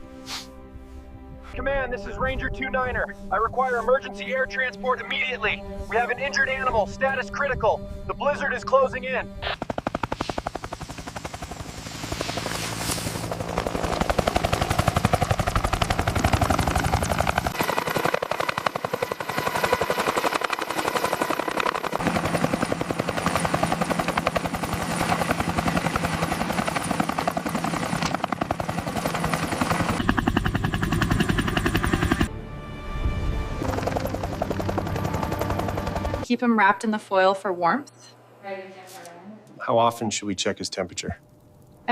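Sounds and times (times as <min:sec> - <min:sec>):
helicopter rotor blades beating: 0:01.8 - 0:32.3, 0:33.2 - 0:36.3.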